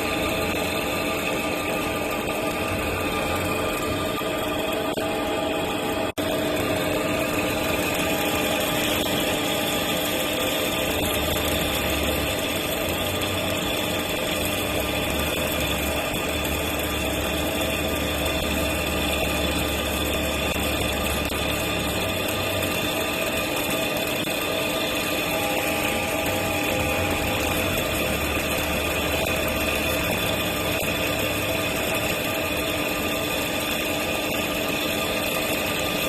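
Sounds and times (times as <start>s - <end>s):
machine hum with whining tones: 0.0s - 36.0s.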